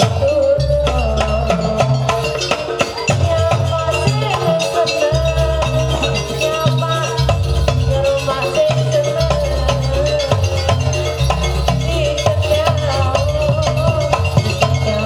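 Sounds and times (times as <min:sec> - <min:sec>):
drum and gong percussion: 0:00.0 - 0:15.0
ornamented melody line: 0:00.0 - 0:15.0.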